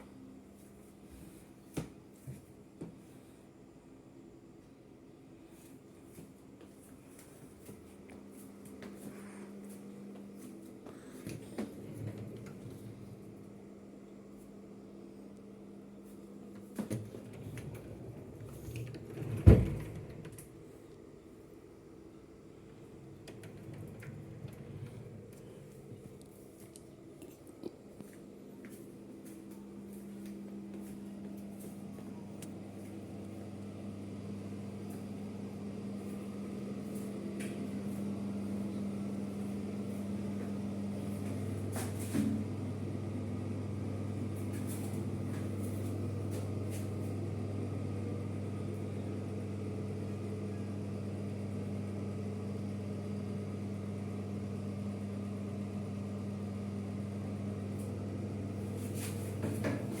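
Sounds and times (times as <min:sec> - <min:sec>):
electric appliance hum: 0:00.0 - 1:00.0.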